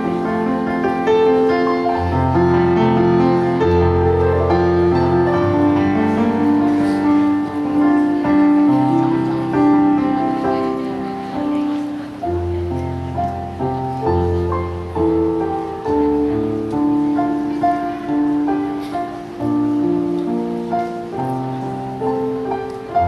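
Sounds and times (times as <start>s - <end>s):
keyboard accompaniment: 0.0s - 23.0s.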